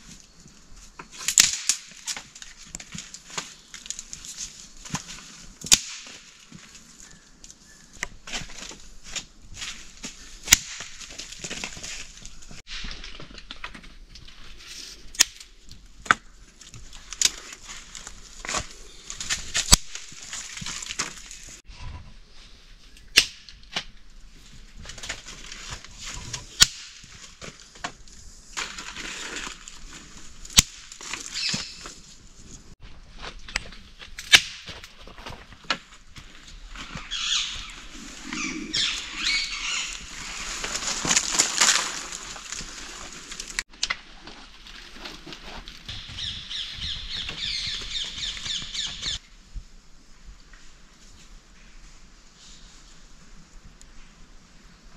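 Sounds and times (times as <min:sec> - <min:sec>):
dry leaves rustling: 0:00.0 - 0:21.7, 0:24.1 - 0:34.0, 0:34.6 - 0:49.2.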